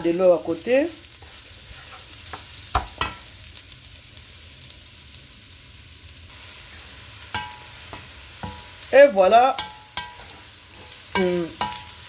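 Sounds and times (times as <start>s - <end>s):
rice sizzling in a pan: 0.0s - 12.0s.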